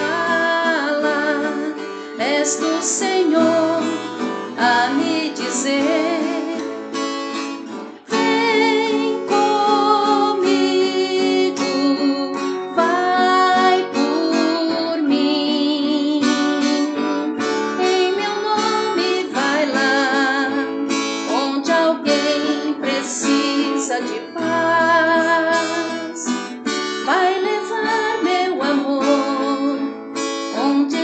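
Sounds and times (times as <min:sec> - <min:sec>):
person singing with vibrato: 0:00.0 - 0:31.0
strummed acoustic guitar: 0:00.0 - 0:31.0.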